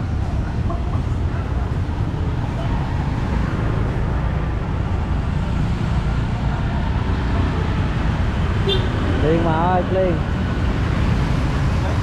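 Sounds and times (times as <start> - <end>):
motor traffic rumble: 0.0 - 12.0.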